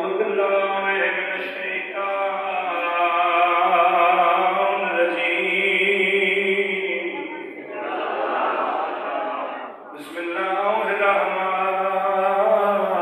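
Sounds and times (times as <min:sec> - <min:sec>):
man chanting melodic recitation: 0:00.0 - 0:07.6, 0:09.9 - 0:13.0.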